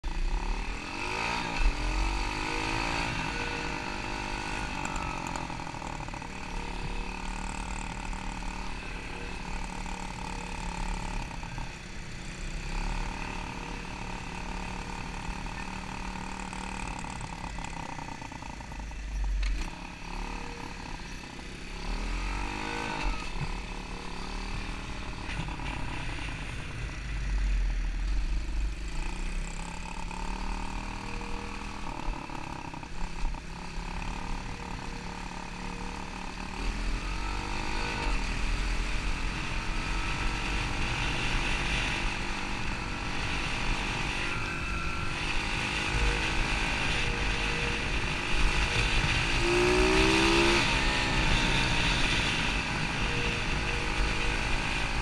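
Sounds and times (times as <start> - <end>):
small engine revving: 0.0 - 55.0.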